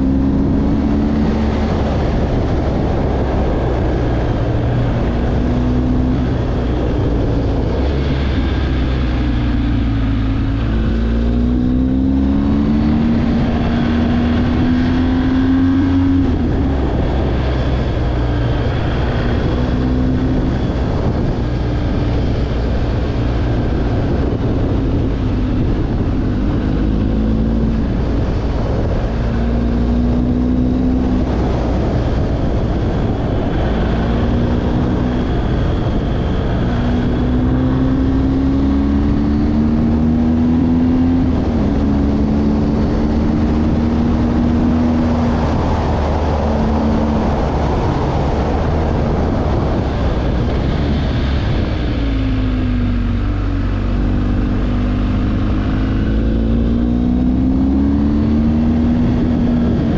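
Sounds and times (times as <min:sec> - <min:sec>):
steady rushing noise: 0:00.0 - 0:59.9
vehicle engine accelerating: 0:00.0 - 0:59.9.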